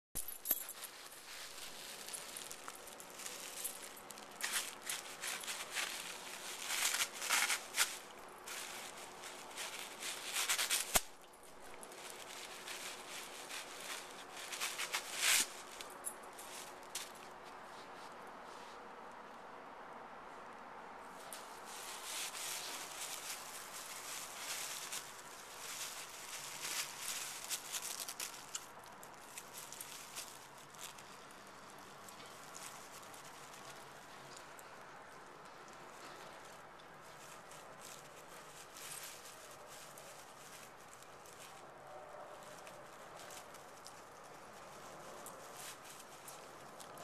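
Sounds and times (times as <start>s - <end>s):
paper bag crinkling: 0.2s - 17.4s, 21.2s - 47.0s.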